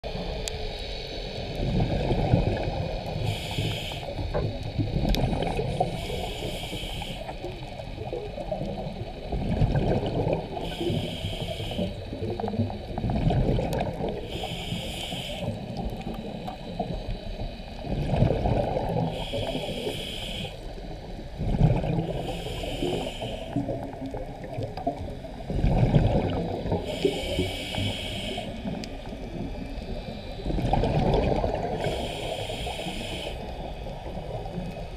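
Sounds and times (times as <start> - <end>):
exhaled air bubbling underwater: 0.0 - 34.9
regulator hiss on inhale: 0.2 - 9.1, 10.1 - 13.0, 13.9 - 17.8, 18.7 - 25.5, 26.3 - 30.5, 31.3 - 34.9.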